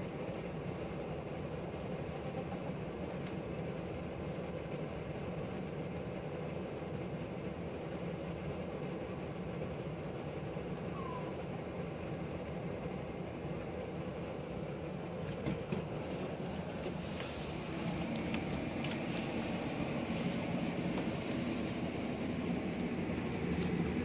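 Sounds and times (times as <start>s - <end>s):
room fan whirring: 0.0s - 24.0s.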